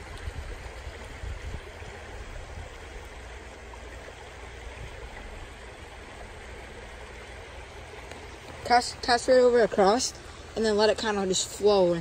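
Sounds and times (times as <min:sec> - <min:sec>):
creek flowing: 0:00.0 - 0:12.0.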